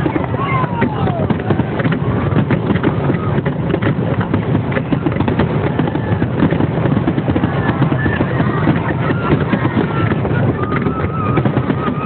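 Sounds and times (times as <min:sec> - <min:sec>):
deep rumble of bangs: 0:00.0 - 0:12.0
fireworks popping and crackling: 0:00.0 - 0:12.0.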